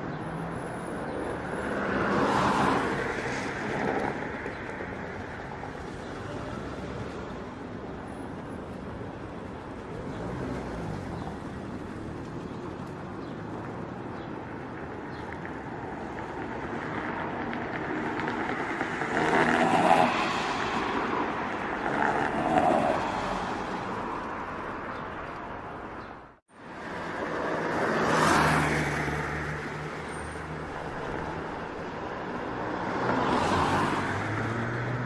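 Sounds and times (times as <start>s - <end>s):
bus and truck engines rumbling: 0.0s - 35.0s.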